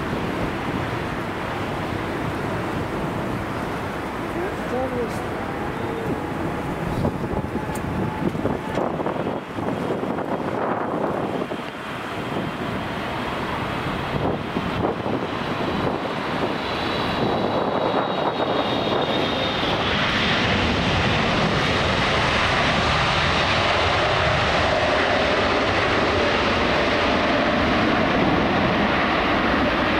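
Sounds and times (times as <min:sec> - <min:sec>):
jet engines rushing: 0:00.0 - 0:29.9.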